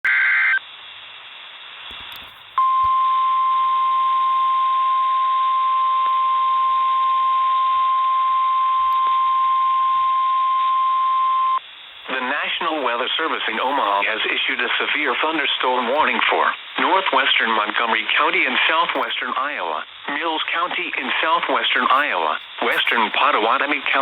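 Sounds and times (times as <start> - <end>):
radio hiss: 0.1 - 24.0.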